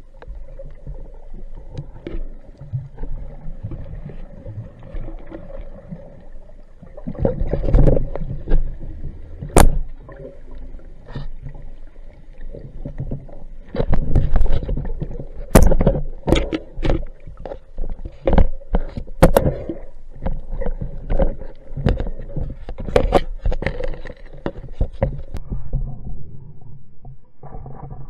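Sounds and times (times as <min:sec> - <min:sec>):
water churning and sloshing: 0:00.0 - 0:26.2.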